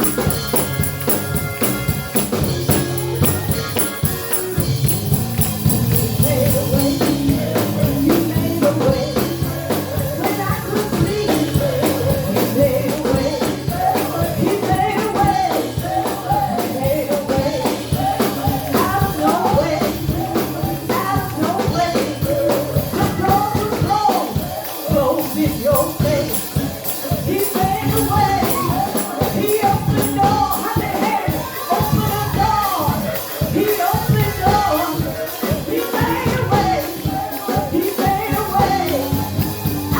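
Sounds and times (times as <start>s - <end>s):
drums beating: 0.0s - 39.9s
gospel singing with band: 0.0s - 39.9s
tambourine: 0.0s - 39.9s.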